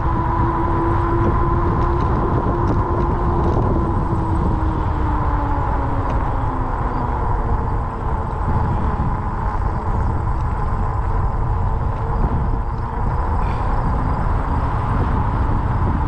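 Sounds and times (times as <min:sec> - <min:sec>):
faint whine: 0:00.0 - 0:16.0
wind buffeting microphone: 0:00.0 - 0:16.0.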